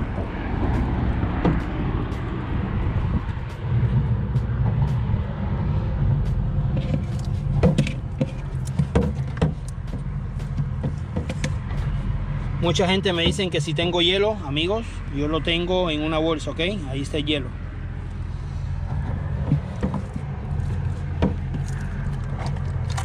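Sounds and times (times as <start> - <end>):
low rumble of road traffic: 0.0 - 23.0.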